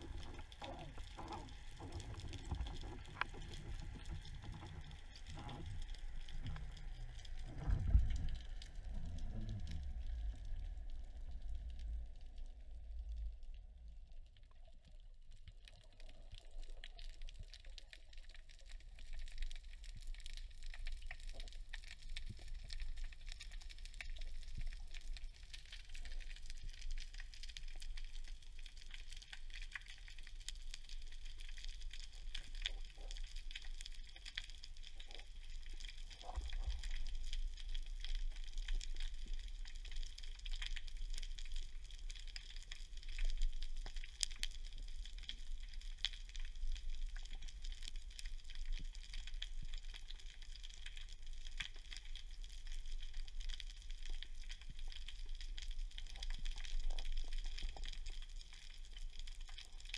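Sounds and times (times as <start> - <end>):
dense crackle of tiny clicks: 0.0 - 59.9
low underwater rumble: 0.0 - 59.9.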